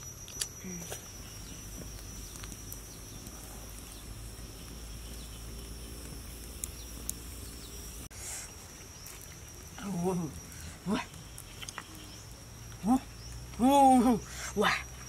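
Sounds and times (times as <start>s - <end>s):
campfire crackling: 0.0s - 15.0s
high insect drone: 0.0s - 15.0s.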